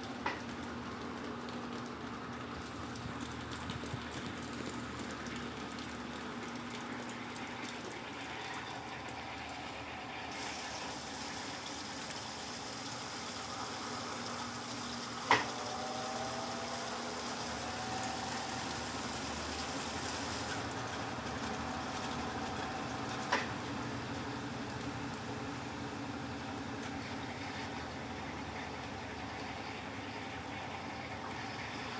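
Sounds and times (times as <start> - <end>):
washing machine spinning: 0.0 - 31.9.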